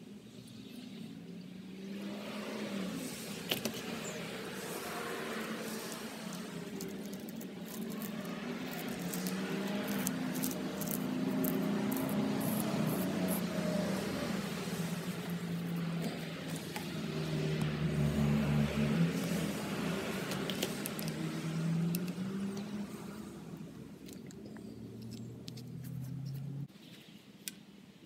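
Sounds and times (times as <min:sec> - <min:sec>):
vehicle engine running: 0:03.1 - 0:26.7.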